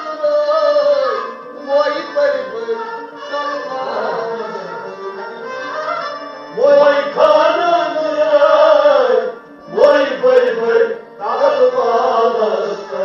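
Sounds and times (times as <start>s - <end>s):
devotional song with instruments: 0.0s - 13.0s.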